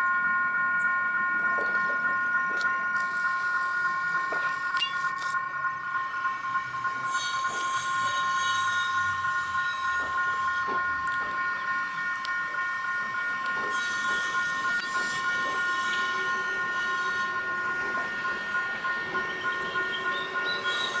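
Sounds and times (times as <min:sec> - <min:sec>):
level crossing alarm: 0:00.0 - 0:21.0
train rumbling: 0:00.8 - 0:21.0.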